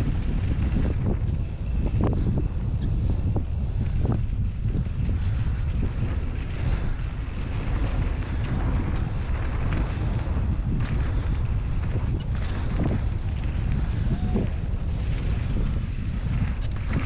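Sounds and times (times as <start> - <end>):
faint bicycle clicks: 0.0 - 17.0
wind buffeting microphone: 0.0 - 17.0.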